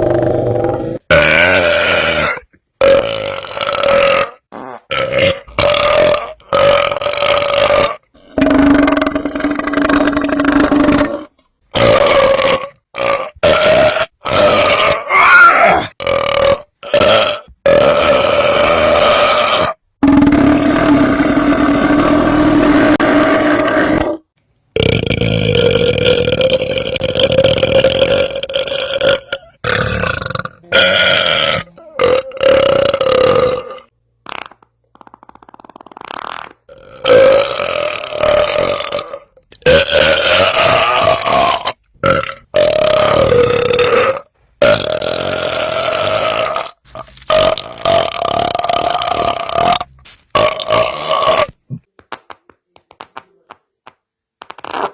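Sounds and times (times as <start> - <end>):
long drawn-out belches: 0.0 - 34.4, 35.0 - 51.9.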